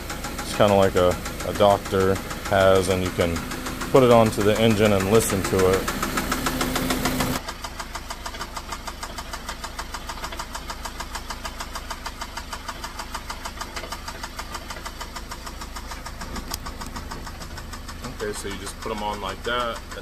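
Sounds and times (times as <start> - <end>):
car engine idling with knock: 0.0 - 20.0.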